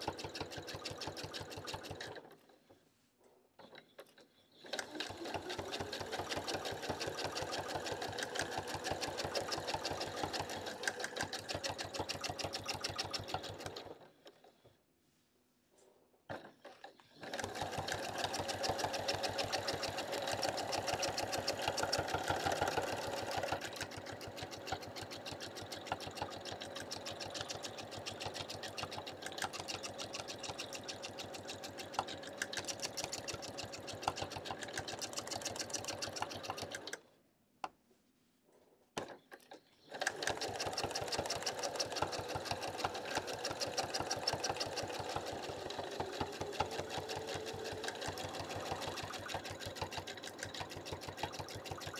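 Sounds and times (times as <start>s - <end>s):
sewing machine clicks: 0.0s - 2.6s, 3.6s - 14.6s, 16.3s - 37.1s, 39.0s - 51.9s
sewing machine stitching: 0.0s - 2.6s, 3.6s - 14.7s, 16.3s - 37.1s, 39.0s - 51.9s.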